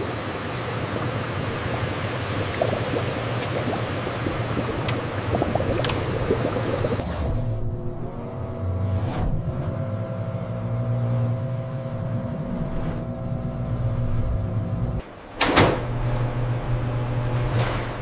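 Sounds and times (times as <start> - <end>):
factory machinery humming: 0.0 - 17.1.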